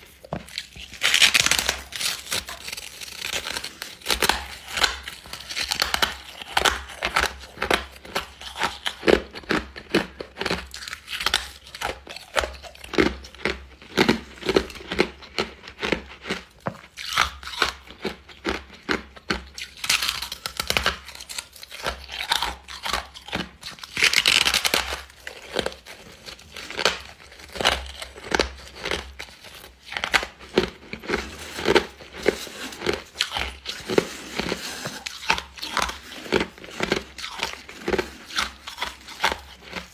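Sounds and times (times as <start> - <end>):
frost being chewed crunching: 0.0 - 39.9.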